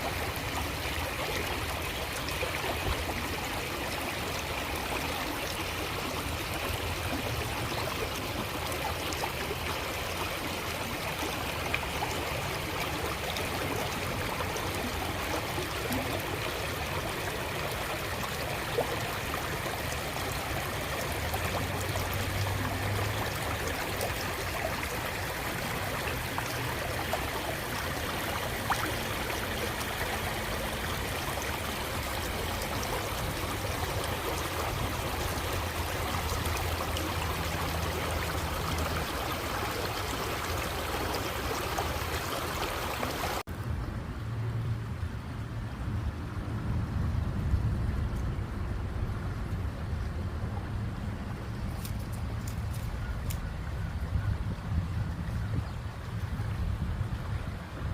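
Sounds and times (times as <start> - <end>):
creek flowing over stones: 0.0 - 57.9.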